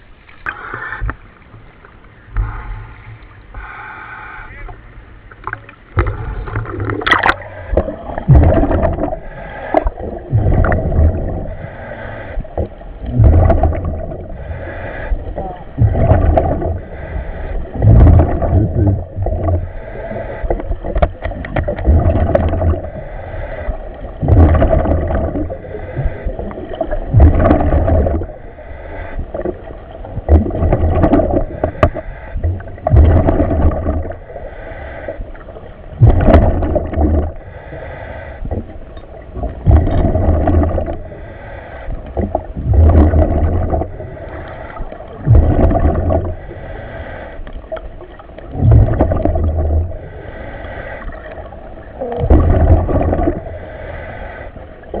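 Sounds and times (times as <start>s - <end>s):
diver breathing through gear: 2.4s - 4.6s, 8.4s - 21.0s, 21.6s - 29.9s, 30.6s - 38.9s, 39.8s - 47.8s, 48.8s - 51.6s, 52.6s - 55.0s
gurgling exhaled bubbles: 5.4s - 34.5s, 35.1s - 37.5s, 38.4s - 41.2s, 41.9s - 46.8s, 47.6s - 50.2s, 51.0s - 53.6s.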